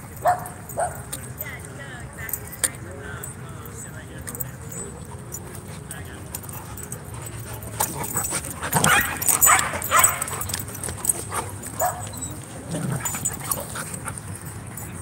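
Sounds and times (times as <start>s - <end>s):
dogs barking and yipping: 0.0s - 1.4s, 4.3s - 15.0s.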